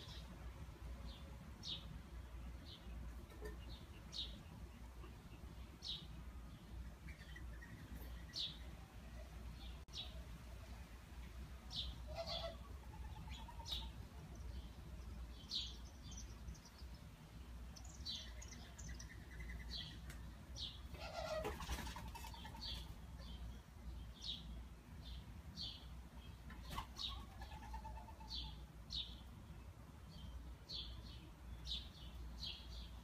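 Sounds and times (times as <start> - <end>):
low steady hum: 0.0 - 33.0
small birds chirping: 1.1 - 10.2, 11.2 - 33.0.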